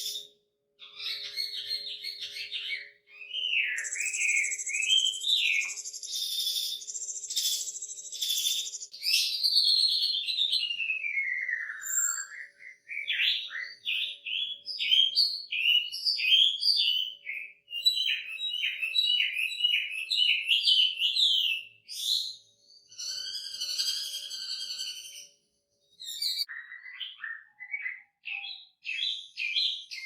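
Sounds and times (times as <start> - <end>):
bird singing varied song: 0.0 - 30.0.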